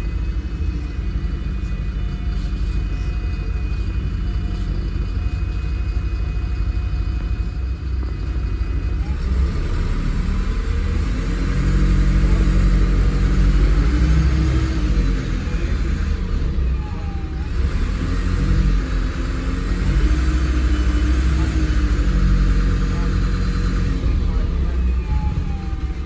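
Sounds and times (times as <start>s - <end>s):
bus diesel engine rumble: 0.0s - 26.0s.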